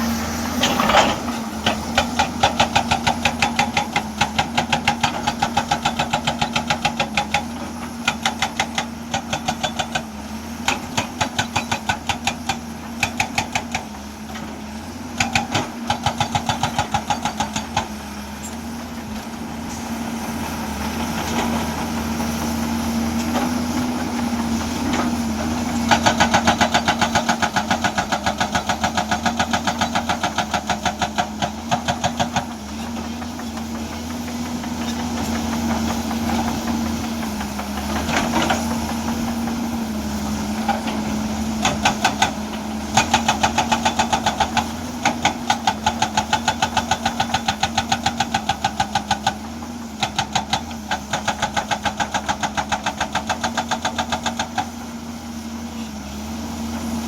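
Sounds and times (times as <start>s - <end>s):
hydraulic hammer pounding rock: 0.0s - 19.1s, 20.7s - 55.0s
diesel engine running: 0.0s - 57.0s.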